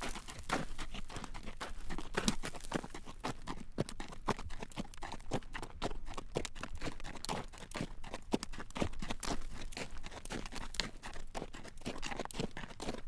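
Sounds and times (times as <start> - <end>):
horse hooves clip-clopping on road: 0.0 - 13.0.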